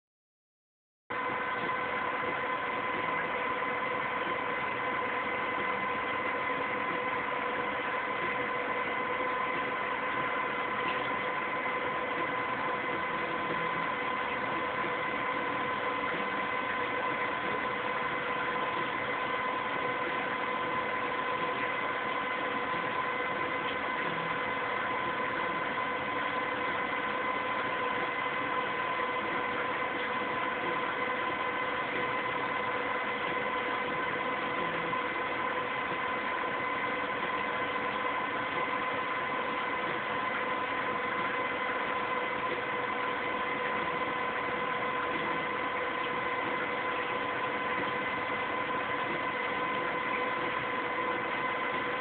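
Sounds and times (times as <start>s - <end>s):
electrical hum with whining tones: 1.1s - 52.0s.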